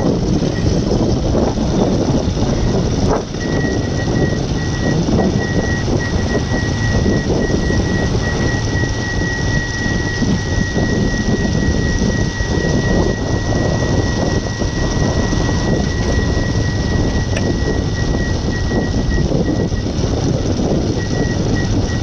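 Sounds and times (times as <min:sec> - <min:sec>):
high steady whine: 0:00.0 - 0:22.0
road and wind noise: 0:00.0 - 0:22.0.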